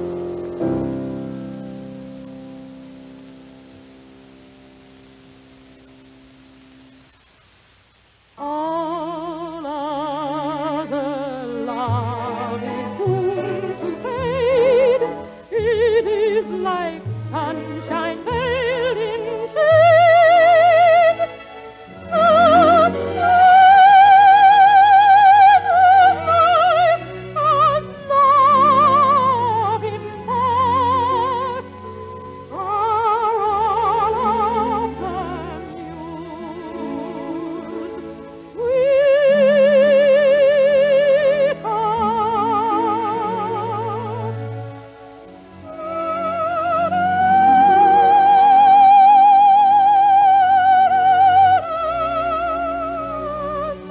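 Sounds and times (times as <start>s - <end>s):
woman singing opera: 8.4s - 44.8s, 45.6s - 53.9s
string orchestra: 8.4s - 53.9s.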